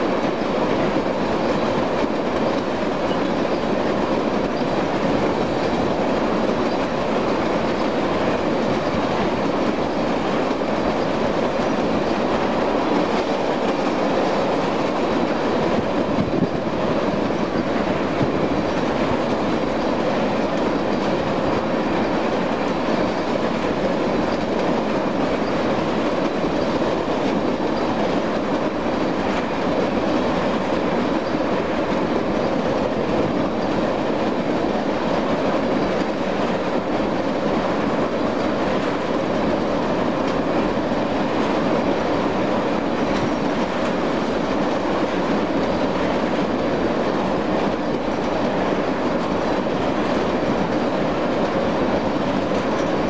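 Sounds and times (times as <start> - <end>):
train wheels rolling on rail: 0.0 - 53.0.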